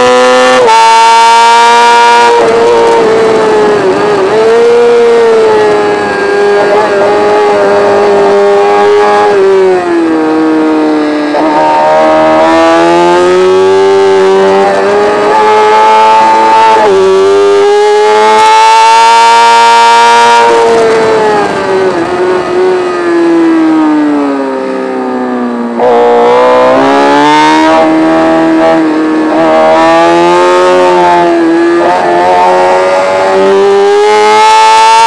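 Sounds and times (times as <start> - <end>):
racing motorcycle engine revving: 0.0 - 35.0.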